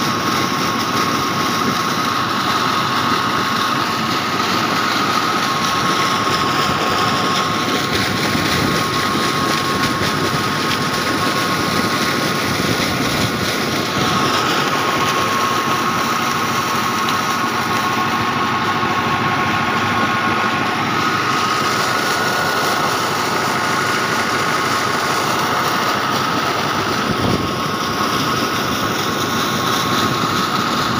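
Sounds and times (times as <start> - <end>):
engine running steadily: 0.0 - 30.9
water gushing from pipe: 0.0 - 30.9
water pump whine: 0.0 - 30.9.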